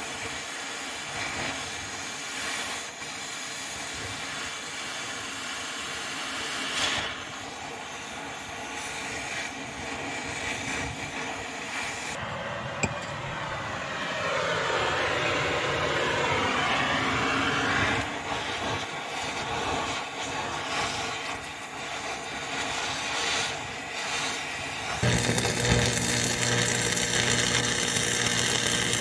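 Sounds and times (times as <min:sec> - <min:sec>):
cutting torch hissing: 0:00.0 - 0:12.2, 0:15.8 - 0:29.0.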